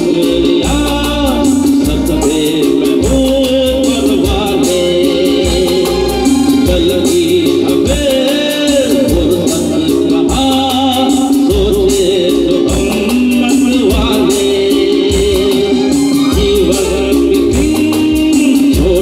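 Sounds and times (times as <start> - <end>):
band with guitars keyboards drums: 0.0 - 19.0
man singing into a microphone: 0.0 - 19.0.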